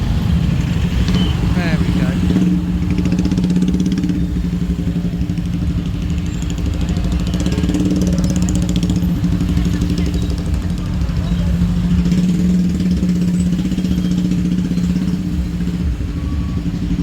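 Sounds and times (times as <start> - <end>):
motorbike engines humming: 0.0 - 17.0.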